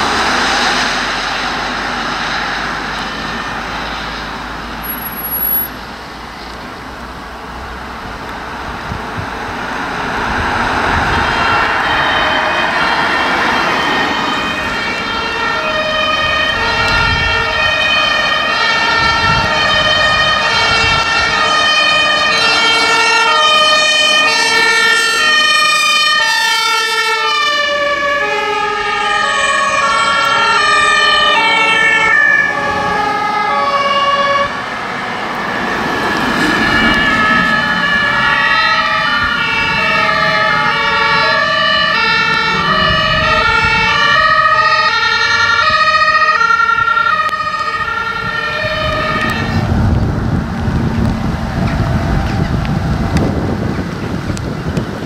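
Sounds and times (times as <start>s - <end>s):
two-tone sirens: 0.0s - 55.0s
vehicle engines rumbling: 0.0s - 55.0s.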